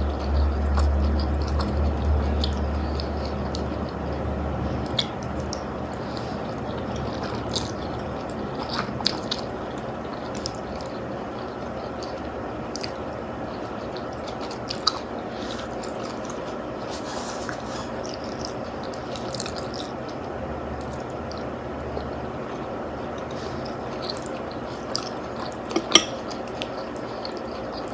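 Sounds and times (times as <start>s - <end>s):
person chewing food: 0.0s - 27.9s
steady background noise: 0.0s - 27.9s.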